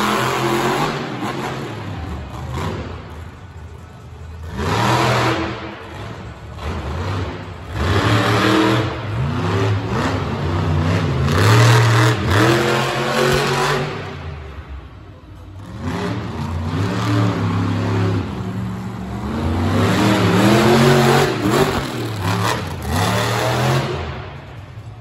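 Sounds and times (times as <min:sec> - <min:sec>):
monster truck engines revving: 0:00.0 - 0:25.0.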